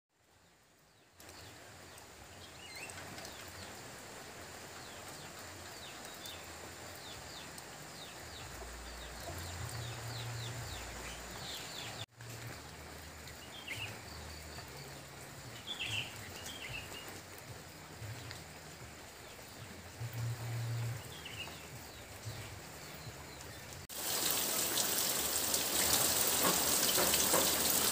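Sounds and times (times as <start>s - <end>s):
light rain falling: 0.1s - 27.9s.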